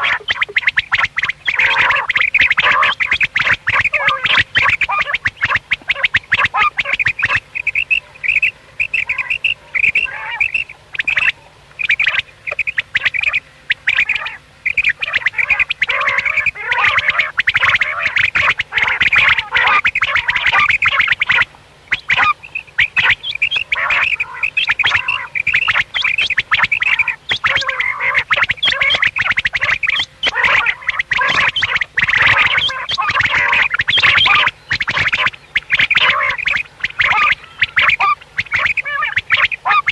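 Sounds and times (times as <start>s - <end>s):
quails calling: 0.0s - 39.9s.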